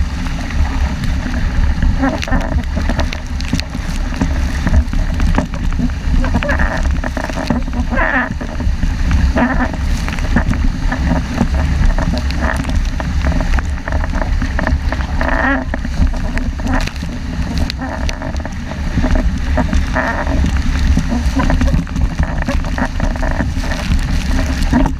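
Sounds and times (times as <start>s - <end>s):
water rushing along boat hull: 0.0s - 24.9s
wind buffeting microphone: 0.0s - 24.9s.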